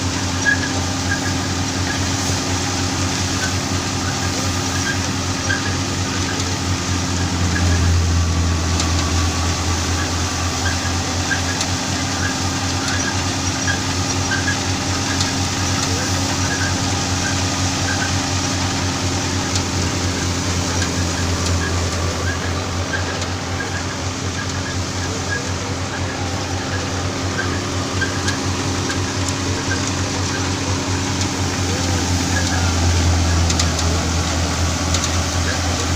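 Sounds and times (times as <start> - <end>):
thresher running: 0.0 - 35.9.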